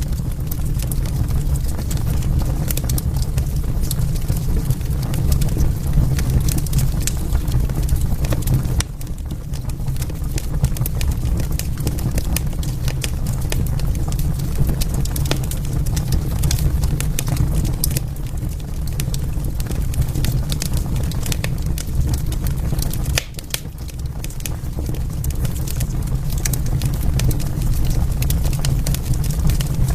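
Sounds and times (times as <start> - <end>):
low rumble of flames: 0.0 - 29.9
wood fire crackling: 0.0 - 29.9.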